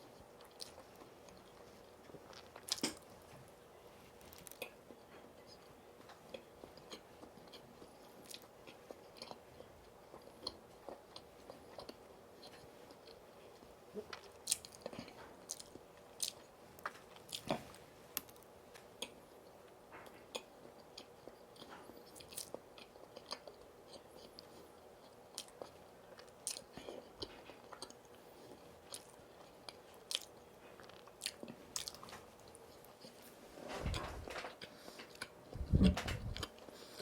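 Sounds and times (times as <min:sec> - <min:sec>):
chewing and biting: 0:00.1 - 0:03.0, 0:04.2 - 0:13.3, 0:14.0 - 0:18.4, 0:19.0 - 0:33.2.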